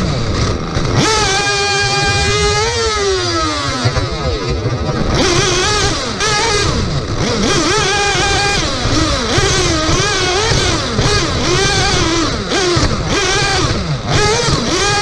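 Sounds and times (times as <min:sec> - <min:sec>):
small engine revving: 0:00.0 - 0:15.0
tyres rumbling on dirt: 0:00.0 - 0:15.0.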